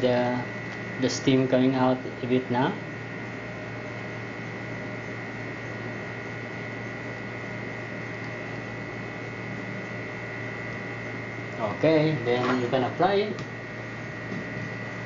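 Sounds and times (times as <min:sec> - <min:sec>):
steam iron electric hum: 0:00.0 - 0:15.0.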